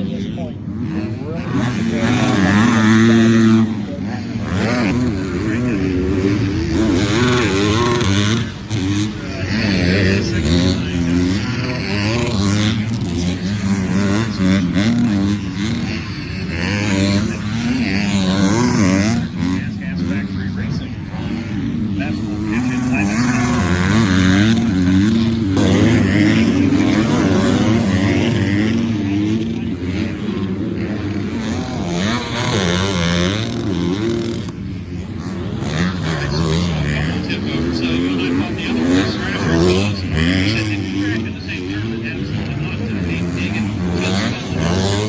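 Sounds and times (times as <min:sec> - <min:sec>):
motocross bikes revving: 0:00.0 - 0:45.0.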